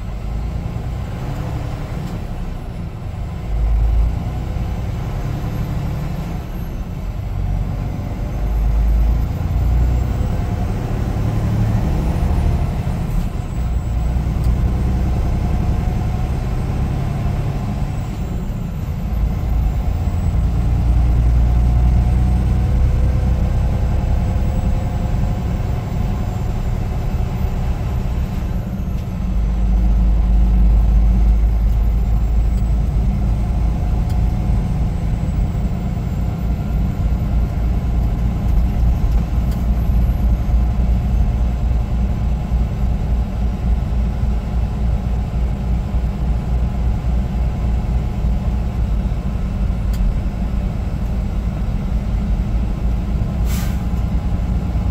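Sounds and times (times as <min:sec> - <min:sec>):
truck engine and road drone: 0:00.0 - 0:54.9.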